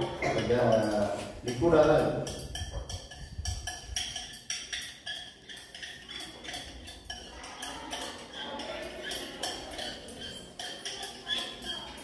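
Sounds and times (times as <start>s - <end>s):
glassware clinking: 0.0s - 12.0s.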